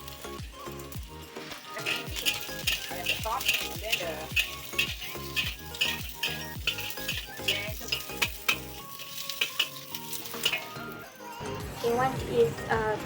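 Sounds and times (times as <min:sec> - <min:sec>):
onion sizzling in oil: 0:00.0 - 0:11.5
background music with beat: 0:00.0 - 0:13.0.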